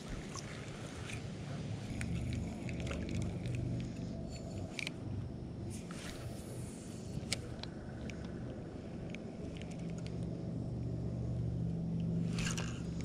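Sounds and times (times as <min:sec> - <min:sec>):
low motor-like hum: 0:00.0 - 0:13.0.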